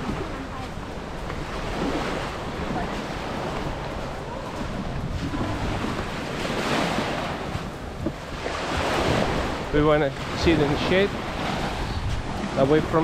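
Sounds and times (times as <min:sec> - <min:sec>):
small waves washing on beach: 0:00.0 - 0:13.0
wind buffeting microphone: 0:00.0 - 0:13.0.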